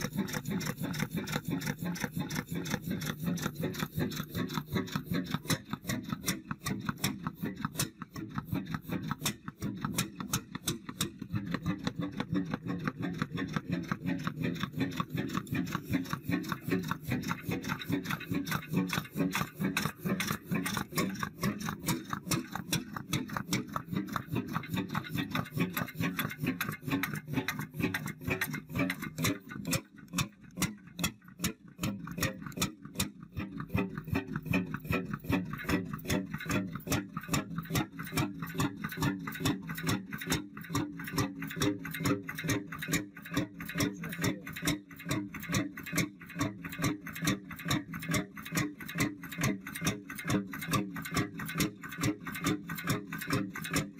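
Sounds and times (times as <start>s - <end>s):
stationary engine knocking and clicking: 0.0s - 53.9s.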